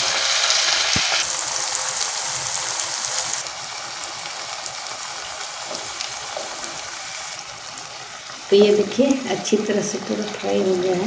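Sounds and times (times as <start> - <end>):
oil sizzling while deep-frying: 0.0 - 11.0.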